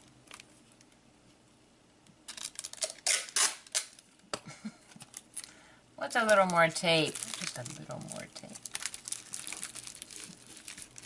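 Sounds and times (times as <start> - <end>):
tape clicks and crinkles: 0.0 - 1.0, 2.3 - 4.2, 4.8 - 11.0.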